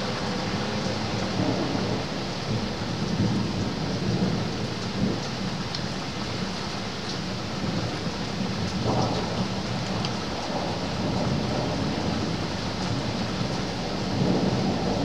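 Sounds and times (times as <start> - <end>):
distant thunder rumble: 0.0 - 6.5, 7.3 - 15.0
steady rain falling: 0.0 - 15.0.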